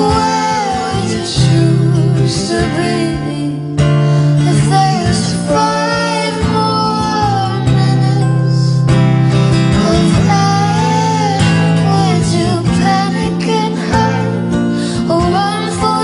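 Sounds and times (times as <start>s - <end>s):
plucked acoustic guitar: 0.0s - 16.0s
woman singing: 0.0s - 16.0s.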